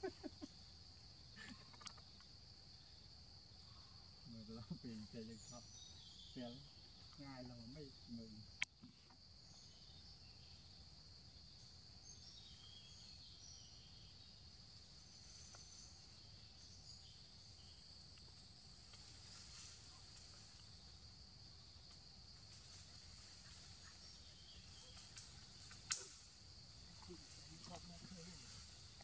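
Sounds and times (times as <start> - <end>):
faint chirps: 0.0 - 29.0
insects droning: 0.0 - 29.0.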